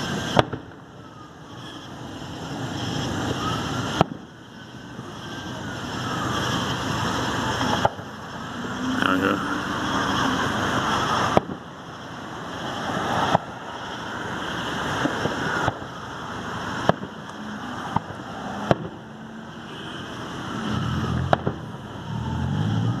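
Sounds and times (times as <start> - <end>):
steady rushing noise: 0.0 - 23.0.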